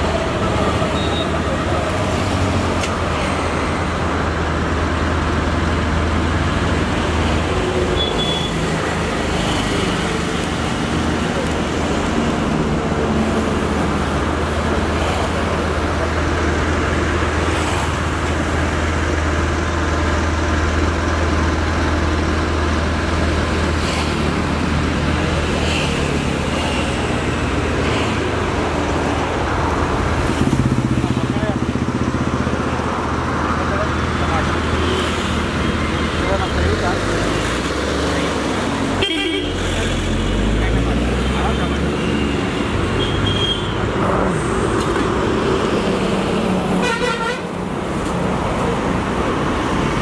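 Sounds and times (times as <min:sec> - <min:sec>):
road traffic noise: 0:00.0 - 0:50.0.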